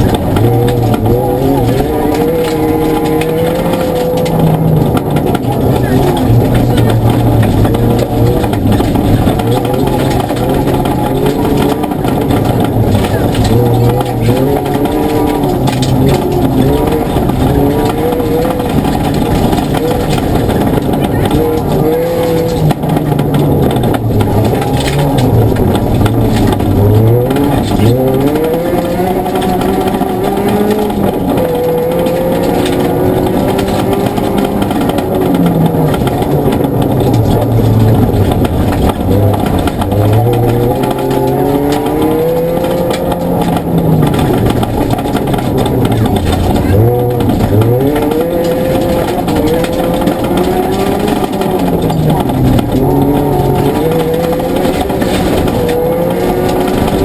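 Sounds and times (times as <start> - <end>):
car engine revving: 0.0 - 57.0
gravel and road noise: 0.0 - 57.0
stones knocking: 0.0 - 57.0.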